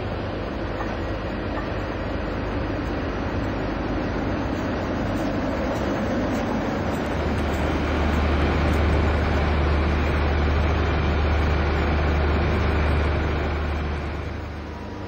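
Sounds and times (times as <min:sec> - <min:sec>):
model train rumbling on track: 0:00.0 - 0:15.0.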